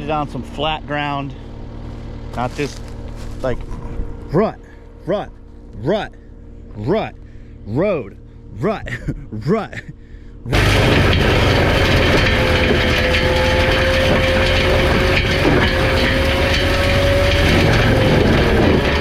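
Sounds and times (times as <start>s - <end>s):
mulcher grinding brush and wood: 0.0s - 7.4s, 10.5s - 19.0s
machine whine: 0.0s - 19.0s.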